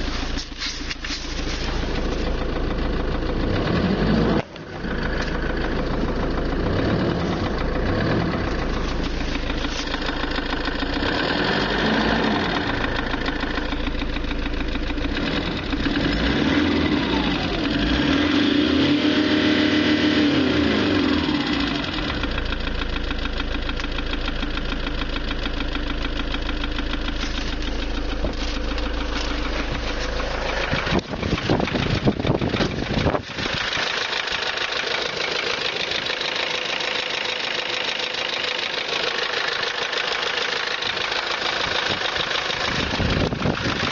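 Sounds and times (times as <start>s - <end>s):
diesel engine knocking: 0.0s - 43.9s
sharp engine clatters: 0.0s - 43.9s.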